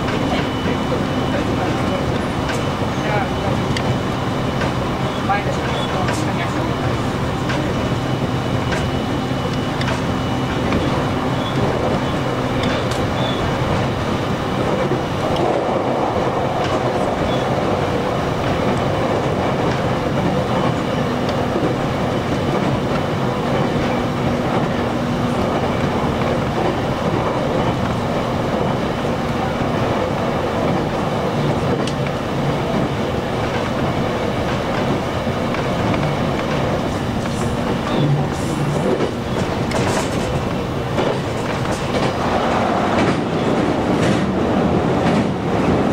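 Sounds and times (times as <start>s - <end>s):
train motor hum: 0.0s - 45.9s
train wheels rumbling on rails: 0.0s - 45.9s.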